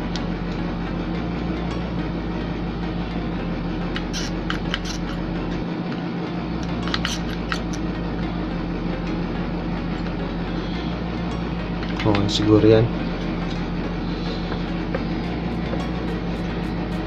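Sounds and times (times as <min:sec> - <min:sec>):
faint background music: 0:00.0 - 0:17.0
steady background hum: 0:00.0 - 0:17.0.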